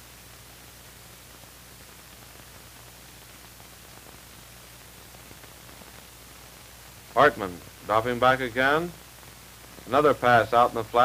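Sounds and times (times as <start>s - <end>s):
low mains hum: 0.0s - 11.0s
steady hiss: 0.0s - 11.0s.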